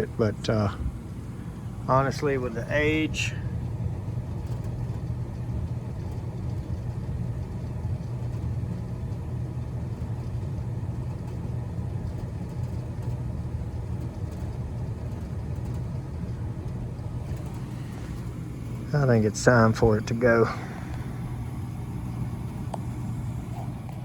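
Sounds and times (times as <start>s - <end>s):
gas furnace low rumble: 0.0s - 24.0s.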